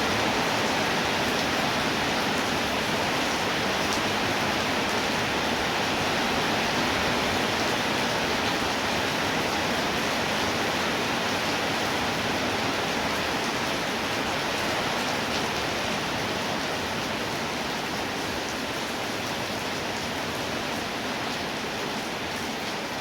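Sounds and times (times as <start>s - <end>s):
heavy rainfall: 0.0s - 23.0s.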